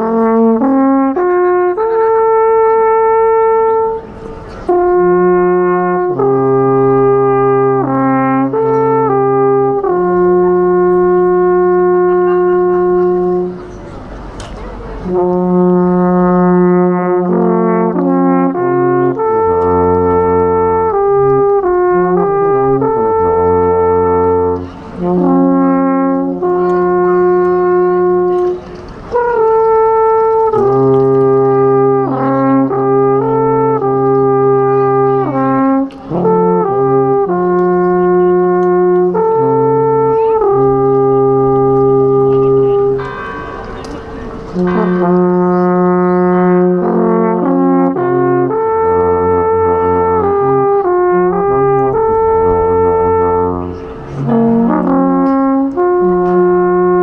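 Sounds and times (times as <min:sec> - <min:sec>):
alphorn playing slow melody: 0:00.0 - 0:13.8, 0:15.0 - 0:57.0.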